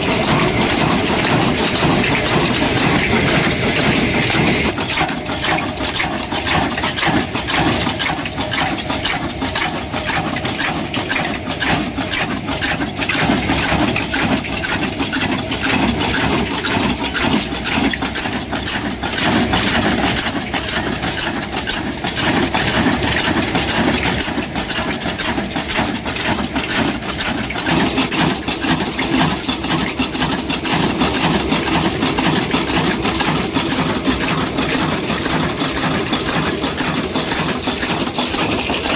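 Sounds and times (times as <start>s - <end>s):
stationary diesel engine clattering: 0.0s - 38.9s.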